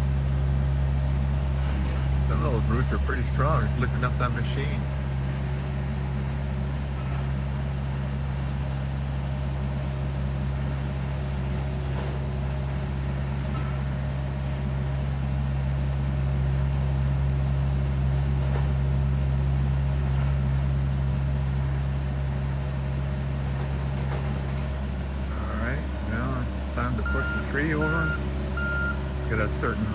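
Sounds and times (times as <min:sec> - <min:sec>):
diesel engine running under load: 0:00.0 - 0:29.9.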